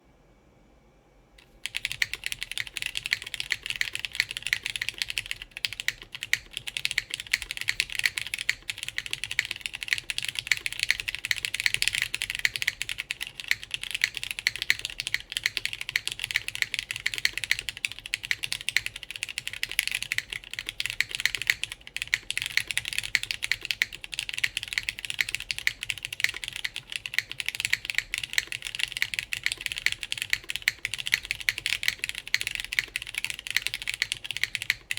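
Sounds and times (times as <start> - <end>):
fast mechanical keyboard typing: 1.4 - 34.9.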